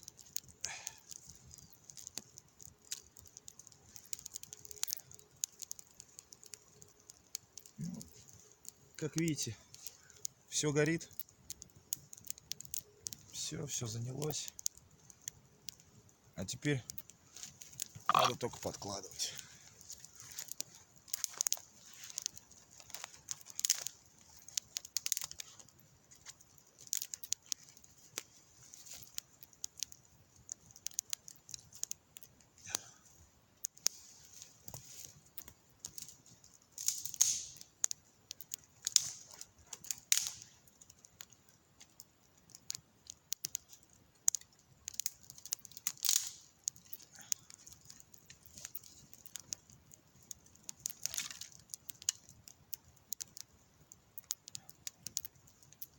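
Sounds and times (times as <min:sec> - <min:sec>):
campfire crackling: 0:00.0 - 0:55.9
sharp snaps and pops: 0:00.0 - 0:55.9.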